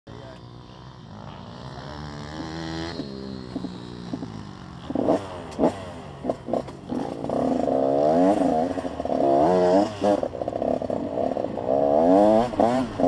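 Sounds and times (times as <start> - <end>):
motocross bike engine revving: 0.1 - 13.0.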